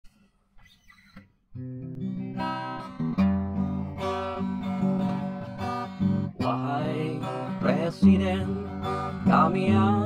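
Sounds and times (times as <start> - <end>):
acoustic guitar strumming: 0.1 - 10.0.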